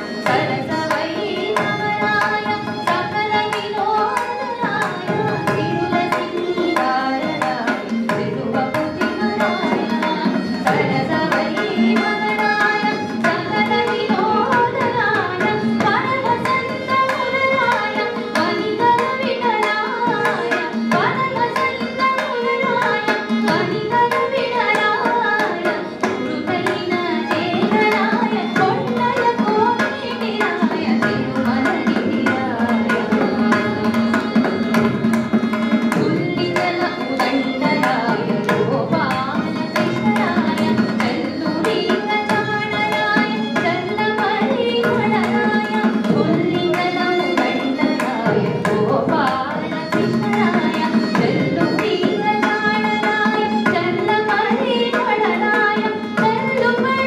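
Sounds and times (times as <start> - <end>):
woman singing: 0.0 - 57.0.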